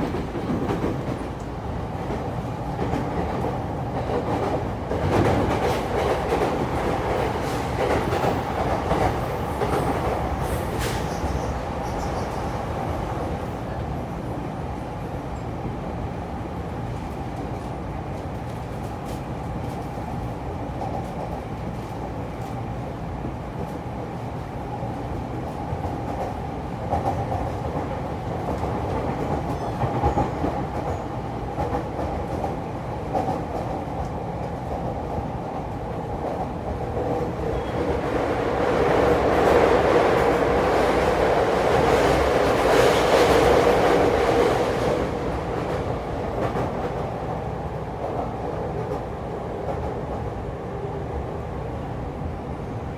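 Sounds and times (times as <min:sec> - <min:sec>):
train rolling noise: 0:00.0 - 0:15.1, 0:16.0 - 0:52.9.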